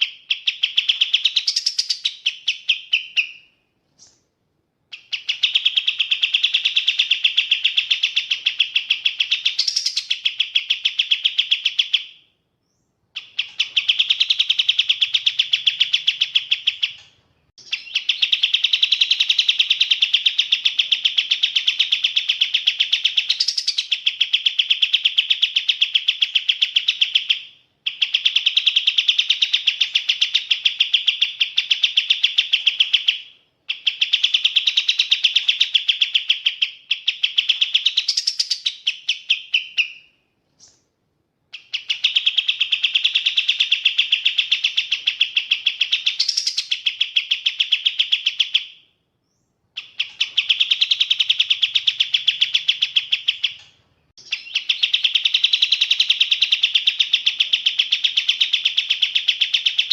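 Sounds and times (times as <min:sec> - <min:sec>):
songbird chattering: 0:00.0 - 0:04.2, 0:04.9 - 0:40.8, 0:41.5 - 0:59.9.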